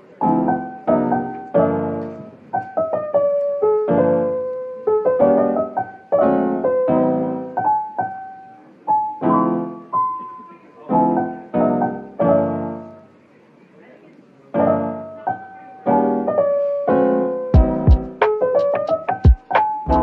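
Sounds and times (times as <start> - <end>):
solo piano music: 0.0 - 13.2, 14.5 - 20.0.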